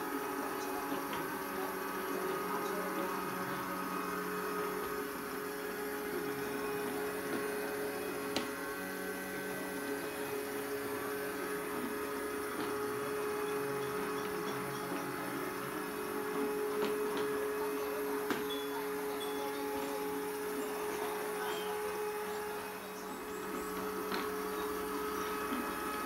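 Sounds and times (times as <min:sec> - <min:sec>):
robot vacuum motor humming: 0:00.0 - 0:26.0.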